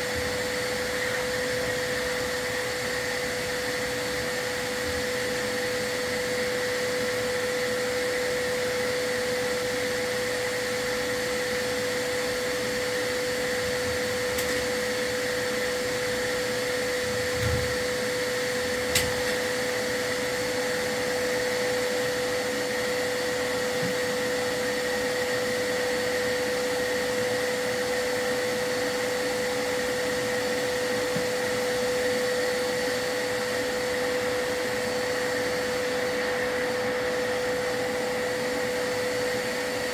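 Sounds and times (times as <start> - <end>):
vacuum running with whine: 0.0 - 39.9.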